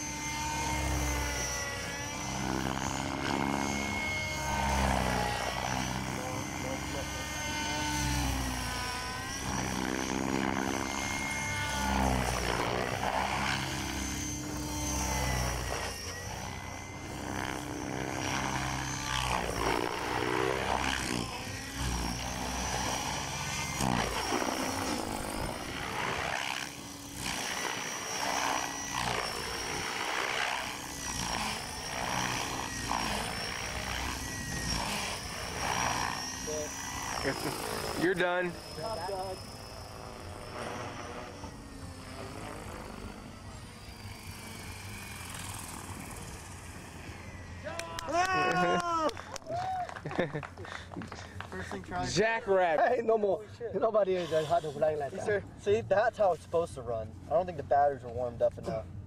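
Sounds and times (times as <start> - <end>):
rc helicopter motor and rotor: 0.0 - 59.0.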